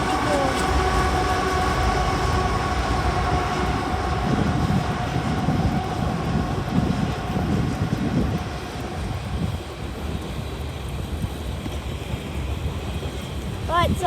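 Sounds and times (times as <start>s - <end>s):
diesel locomotive whine: 0.0s - 13.8s
freight cars rumbling on rails: 0.0s - 14.0s.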